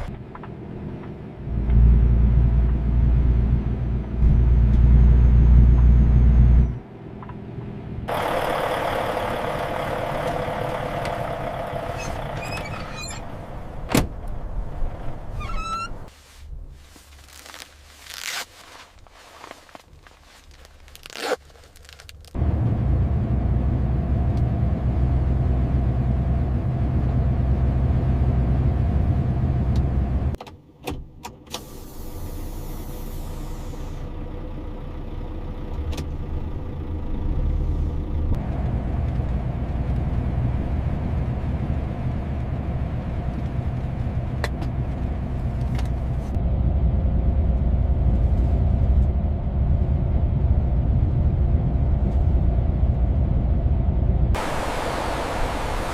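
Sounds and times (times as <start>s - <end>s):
truck engine and road noise: 0.0s - 55.9s.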